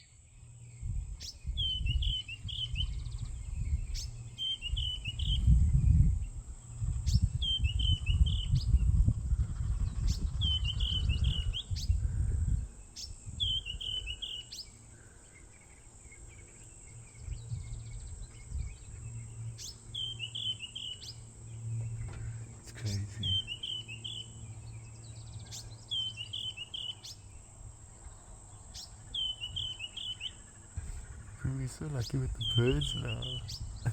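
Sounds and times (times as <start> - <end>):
bird chirping phrase: 0.8 - 6.0, 7.1 - 9.0, 9.6 - 12.0, 13.0 - 27.4, 28.8 - 33.9.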